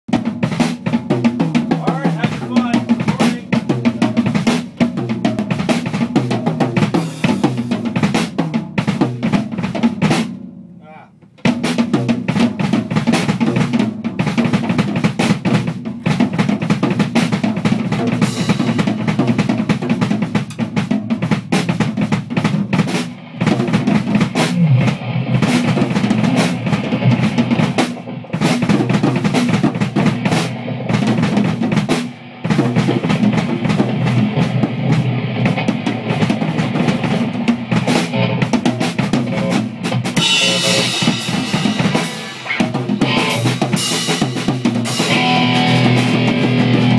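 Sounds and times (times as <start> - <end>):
drum kit played hard: 0.1 - 46.9.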